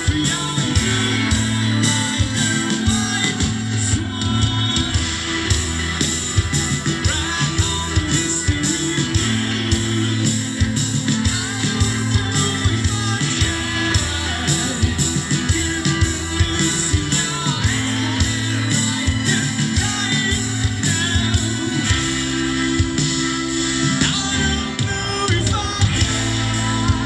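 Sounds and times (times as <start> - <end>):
rock band playing live: 0.0 - 27.0.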